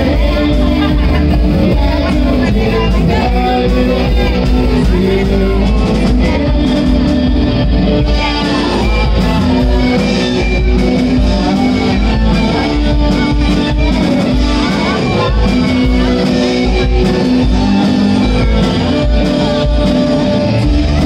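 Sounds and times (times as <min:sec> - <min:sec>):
drum kit: 0:00.0 - 0:21.0
electric bass: 0:00.0 - 0:21.0
electric guitars: 0:00.0 - 0:21.0.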